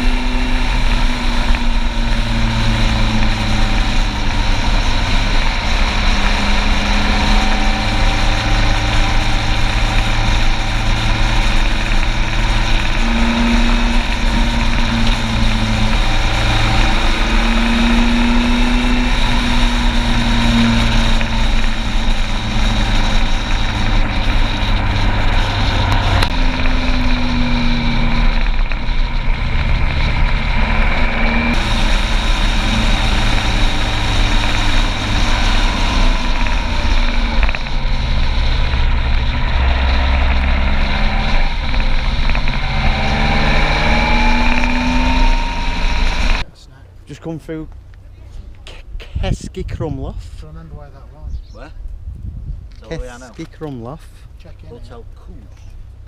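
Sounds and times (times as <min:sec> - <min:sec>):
motorcycle engine running: 0:00.0 - 0:49.4
wind and road noise: 0:00.0 - 0:56.0.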